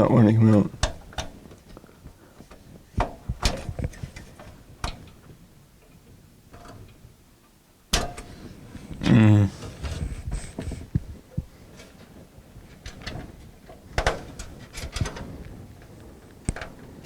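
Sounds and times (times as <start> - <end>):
quiet handling: 0.0 - 17.0.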